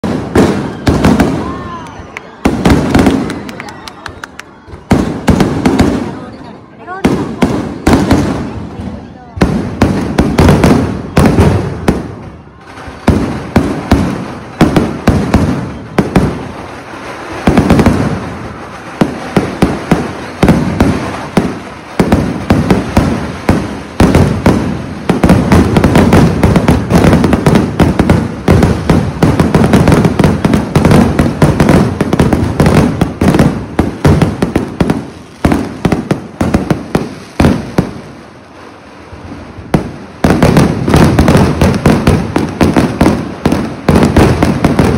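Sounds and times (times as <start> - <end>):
fireworks bangs and bursts: 0.0 - 44.9.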